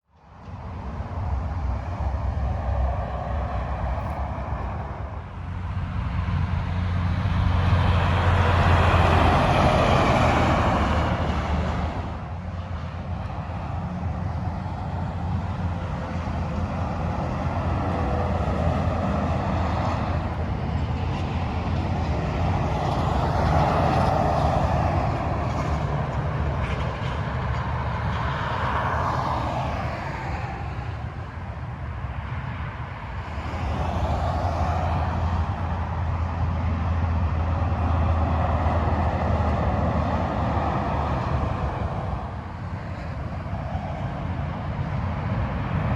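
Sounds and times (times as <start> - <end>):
freeway traffic rushing: 0.0 - 45.9
heavy trucks passing: 0.2 - 45.9.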